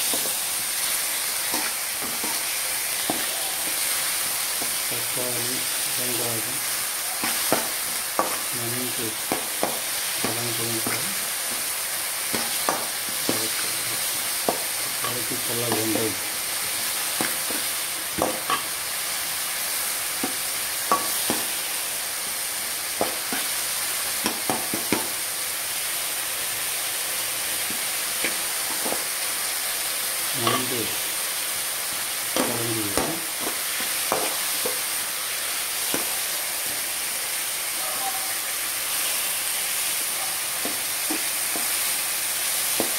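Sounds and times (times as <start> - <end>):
food sizzling in oil: 0.0 - 42.9.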